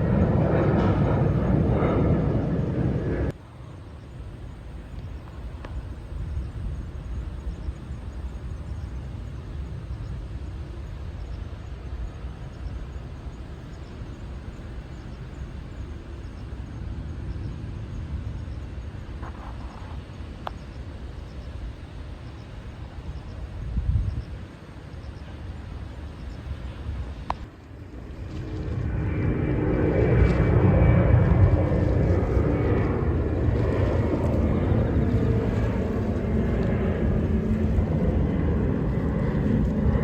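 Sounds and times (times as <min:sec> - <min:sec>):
jet airliner noise: 0:00.0 - 0:40.0
low outdoor rumble: 0:00.0 - 0:40.0.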